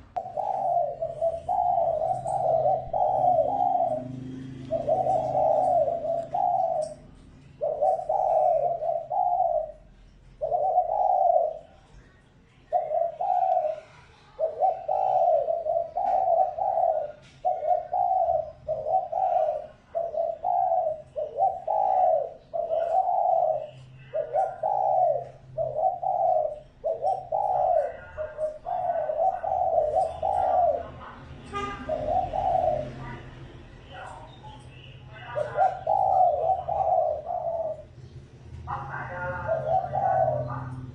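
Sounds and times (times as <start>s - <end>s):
dove cooing: 0.0s - 11.9s, 12.6s - 40.9s.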